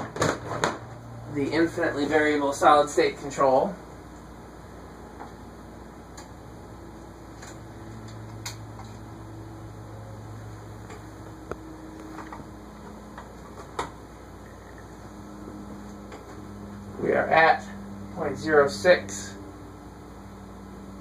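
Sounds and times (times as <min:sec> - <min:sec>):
ceiling fan motor hum: 0:00.0 - 0:21.0.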